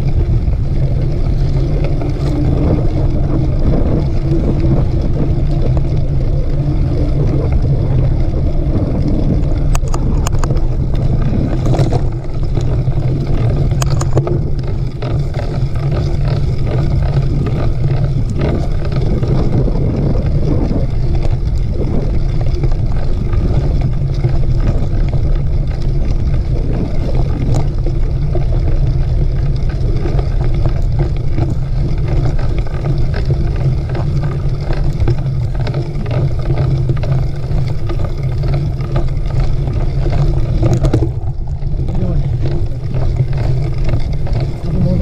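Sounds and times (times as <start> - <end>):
bike rumbling and rattling on dirt: 0.0 - 45.0
wind buffeting microphone: 0.0 - 45.0.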